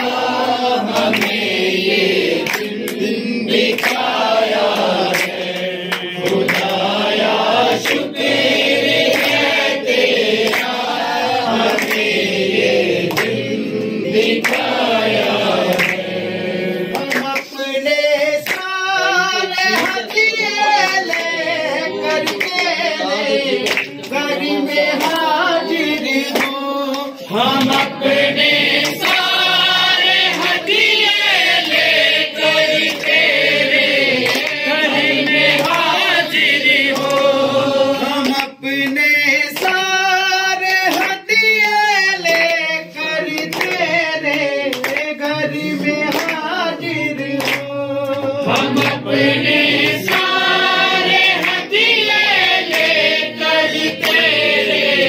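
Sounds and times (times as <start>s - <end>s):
group singing together: 0.0s - 55.0s
hand claps keeping time: 0.0s - 55.0s.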